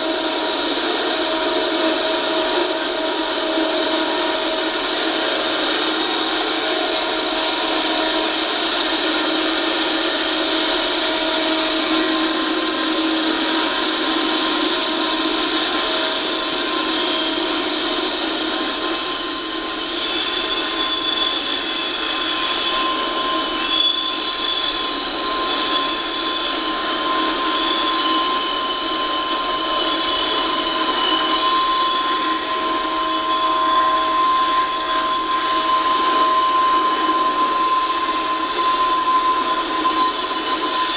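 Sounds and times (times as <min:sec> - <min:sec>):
train rolling past on rails: 0:00.0 - 0:40.9.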